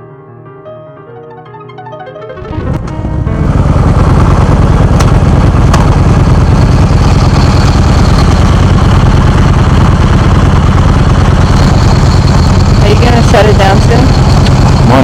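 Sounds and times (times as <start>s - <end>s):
motorcycle engine idling: 2.9s - 15.0s.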